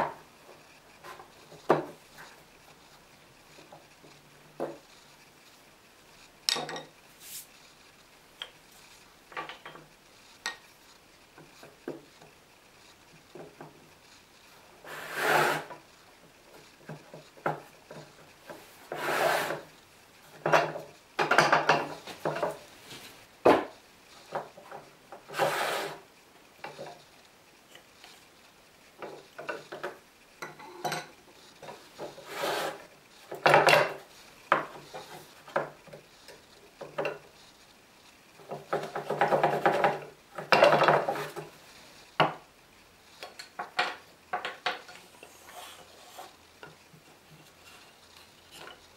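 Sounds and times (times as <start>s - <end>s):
wood scraping on wood: 0.0s - 6.4s, 8.7s - 21.0s, 21.7s - 27.1s, 30.6s - 37.6s, 38.4s - 42.4s, 43.2s - 48.9s.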